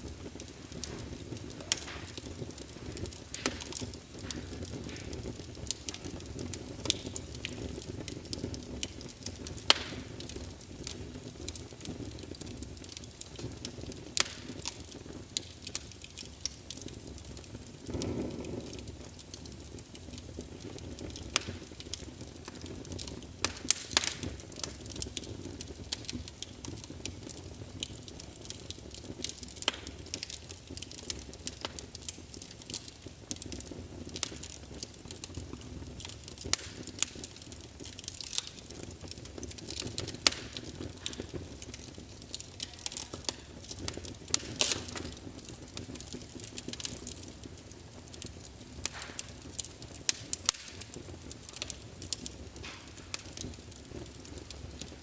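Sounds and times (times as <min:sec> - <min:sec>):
low fire rumble: 0:00.0 - 0:55.0
wood fire crackling: 0:00.0 - 0:55.0.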